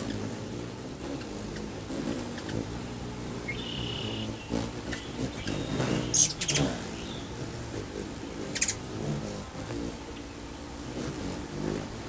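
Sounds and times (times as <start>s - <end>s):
hummingbird chips: 0.0s - 12.0s
low steady hum: 0.0s - 12.0s.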